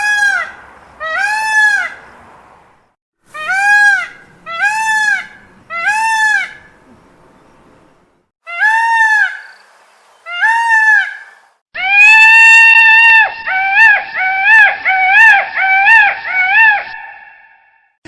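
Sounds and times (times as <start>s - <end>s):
peacock calling: 0.0s - 2.2s, 3.3s - 7.6s, 8.4s - 17.4s.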